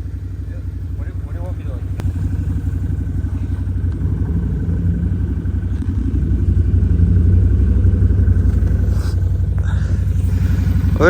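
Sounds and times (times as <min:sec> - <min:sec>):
vehicle engine pulsing rumble: 0:00.0 - 0:11.0.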